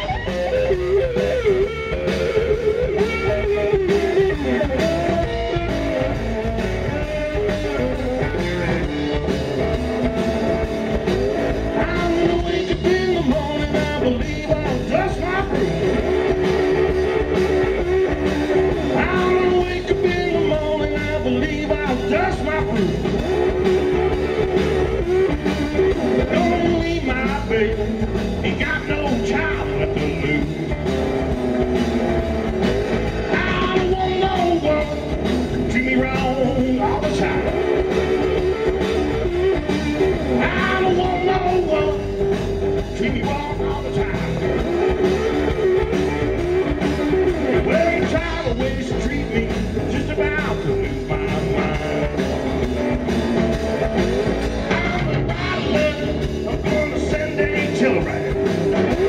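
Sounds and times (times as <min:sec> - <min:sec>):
live blues band playing: 0:00.0 - 0:59.0.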